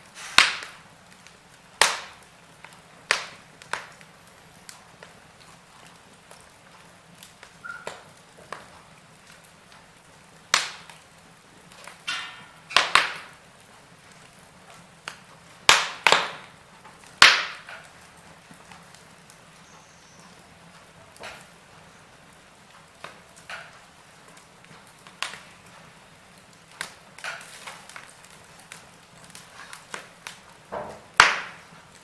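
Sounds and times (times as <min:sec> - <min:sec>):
flames hissing: 0:00.0 - 0:32.0
wood fire crackling: 0:00.0 - 0:32.0.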